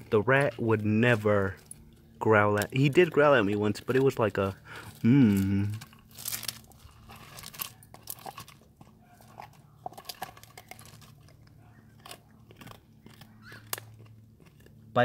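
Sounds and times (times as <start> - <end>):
dog chewing crunching: 0.0 - 15.0
faint steady hum: 0.0 - 15.0.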